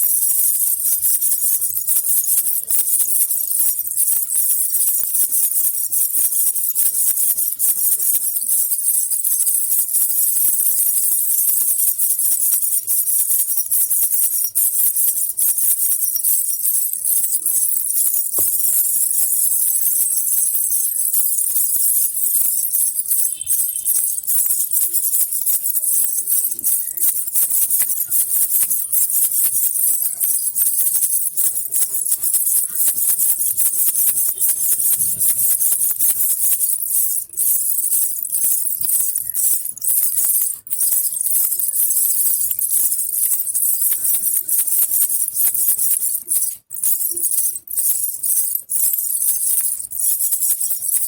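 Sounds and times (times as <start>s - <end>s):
baby rattle jingling: 0.0s - 51.0s.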